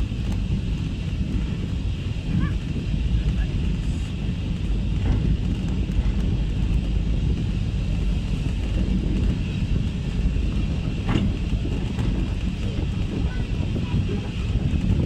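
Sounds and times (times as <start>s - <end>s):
railway wagon rumbling on track: 0.0s - 15.0s.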